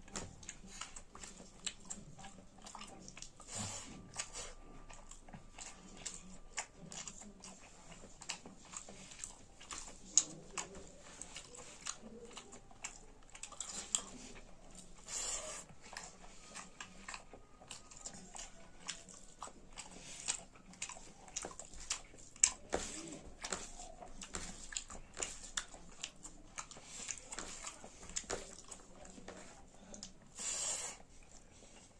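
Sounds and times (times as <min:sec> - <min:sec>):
person chewing food: 0:00.0 - 0:31.9.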